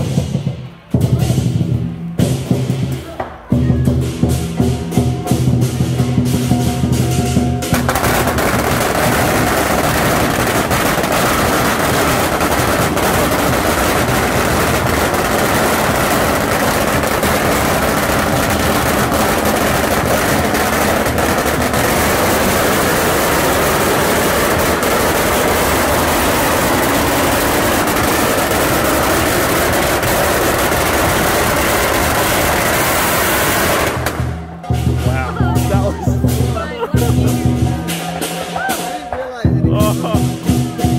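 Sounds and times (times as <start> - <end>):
drum gong and cymbals: 0.0 - 40.9
firecrackers crackling: 0.0 - 40.9.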